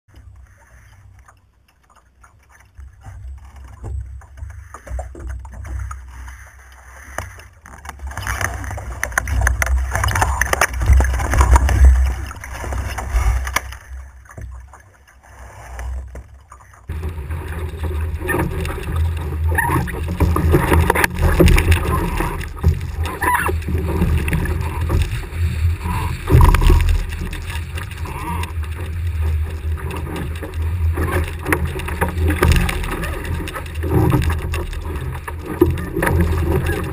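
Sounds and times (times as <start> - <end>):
water rushing along a hull: 0.1 - 36.9.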